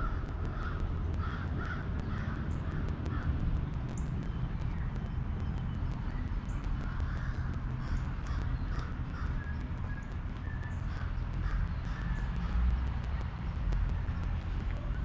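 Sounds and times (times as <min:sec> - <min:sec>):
birds calling: 0:00.0 - 0:15.0
low rumble: 0:00.0 - 0:15.0.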